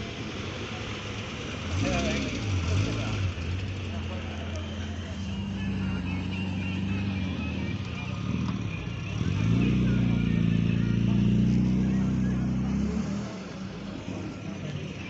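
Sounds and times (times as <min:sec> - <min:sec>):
engine humming underneath: 0:00.0 - 0:15.0.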